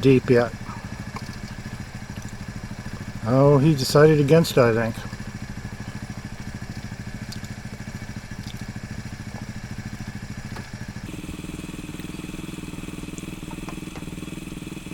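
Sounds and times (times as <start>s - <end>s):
vehicle engine idling: 0.0s - 14.9s.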